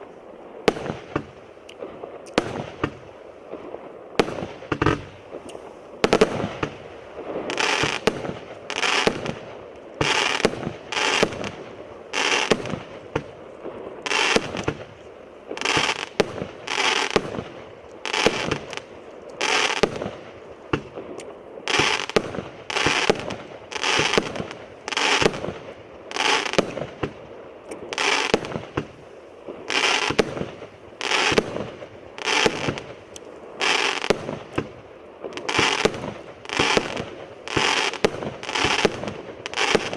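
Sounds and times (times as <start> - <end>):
firework shots and bursts: 0.6 - 39.9.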